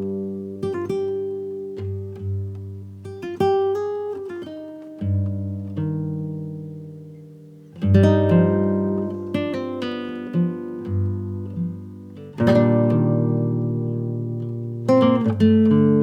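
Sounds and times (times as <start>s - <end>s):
acoustic guitar strumming chords: 0.0s - 16.0s
plucked guitar notes: 0.0s - 16.0s.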